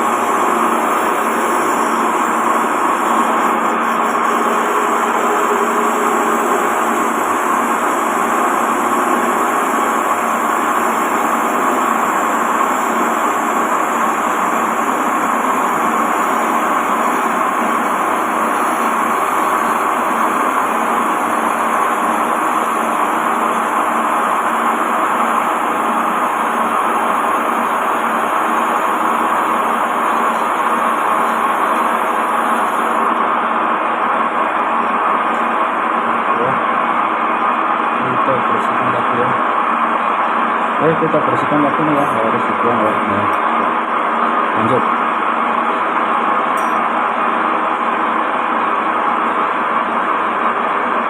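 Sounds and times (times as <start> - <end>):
lathe running: 0.0 - 51.0.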